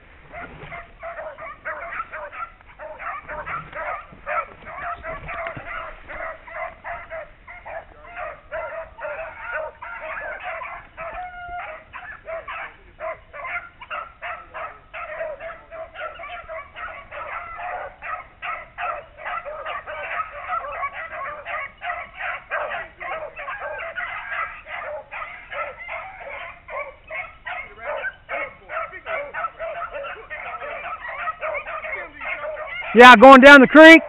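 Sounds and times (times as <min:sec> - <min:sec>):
hounds baying and barking: 0:00.0 - 0:34.0.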